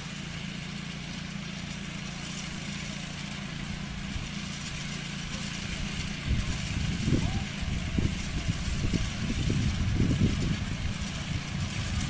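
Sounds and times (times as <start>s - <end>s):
harvesting machine engine humming: 0.0s - 12.0s.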